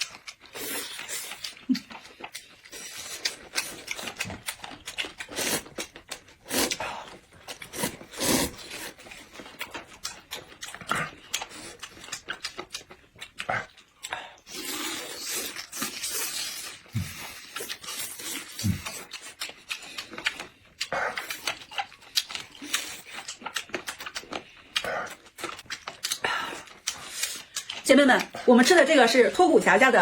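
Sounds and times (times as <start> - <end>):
wet chewing and lip smacking: 0.0 - 29.2.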